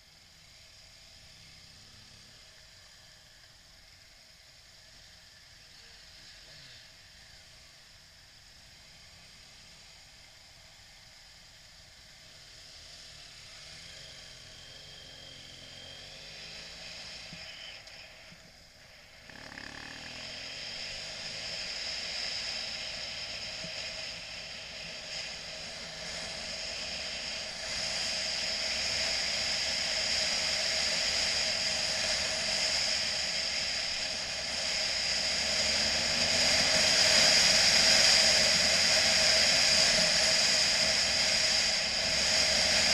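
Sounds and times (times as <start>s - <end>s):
motorcycle engine running: 0.0s - 42.9s
wind hiss: 6.1s - 42.9s.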